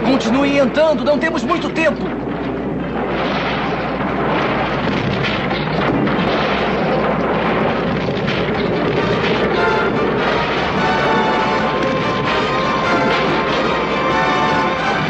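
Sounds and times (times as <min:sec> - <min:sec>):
crumbling crashing rock: 0:01.8 - 0:15.0.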